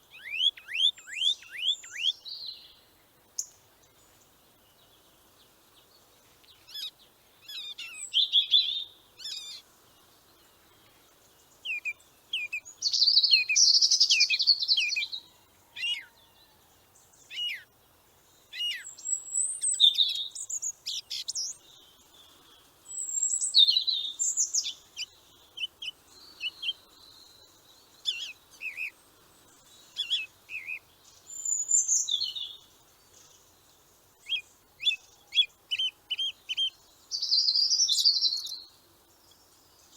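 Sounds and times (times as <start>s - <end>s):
small birds singing and chirping: 0.0s - 39.9s.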